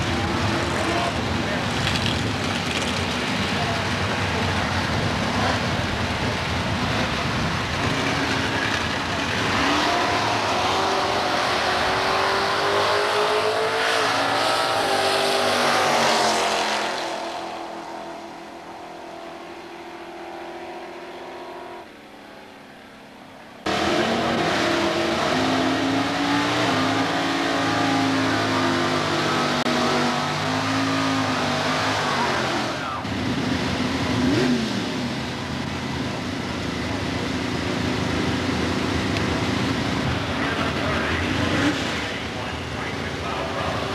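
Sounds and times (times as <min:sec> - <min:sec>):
drag race car engines: 0:00.0 - 0:43.9.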